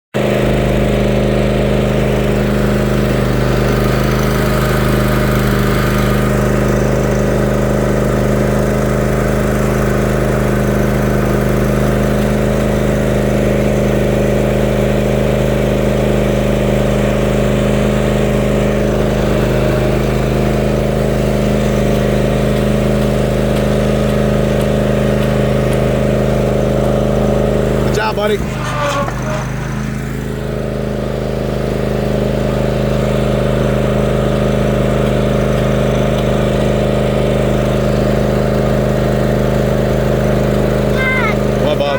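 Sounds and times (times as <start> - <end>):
lawn mower engine running: 0.1 - 41.9.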